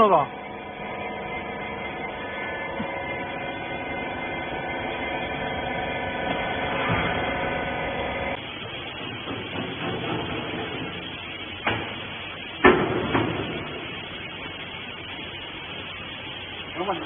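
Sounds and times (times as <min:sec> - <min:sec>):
low hum: 0:00.0 - 0:16.8
motor and pump whining: 0:00.0 - 0:17.0.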